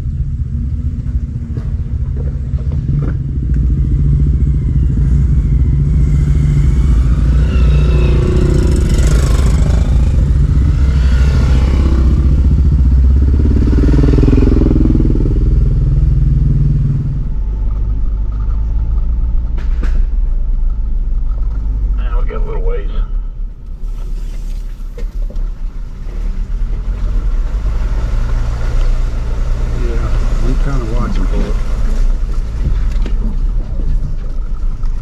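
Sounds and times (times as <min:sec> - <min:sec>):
dirt bikes passing by: 0:00.0 - 0:35.0
vehicle engine idling: 0:00.0 - 0:35.0.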